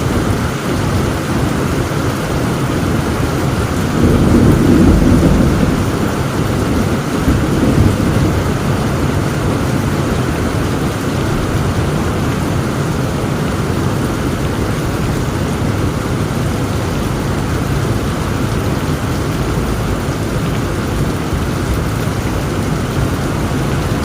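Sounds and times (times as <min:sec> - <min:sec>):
heavy rain falling: 0:00.0 - 0:24.0
thunder rumbling: 0:00.0 - 0:24.0.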